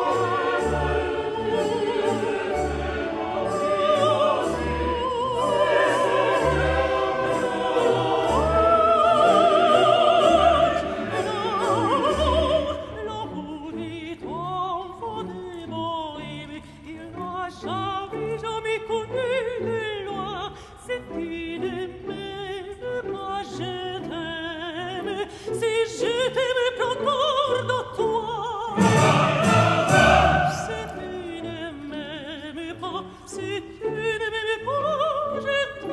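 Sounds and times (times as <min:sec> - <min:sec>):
classical accompaniment: 0:00.0 - 0:35.9
operatic singing with vibrato: 0:00.0 - 0:35.9.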